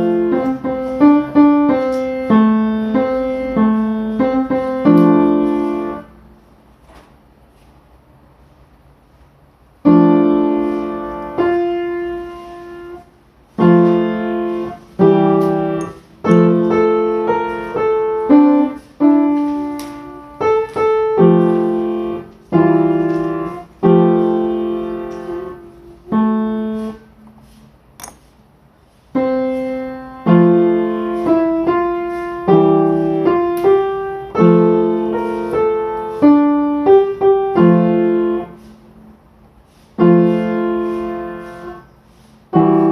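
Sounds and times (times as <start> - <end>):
slow solo piano piece: 0.0 - 6.2, 9.8 - 27.3, 29.1 - 42.9.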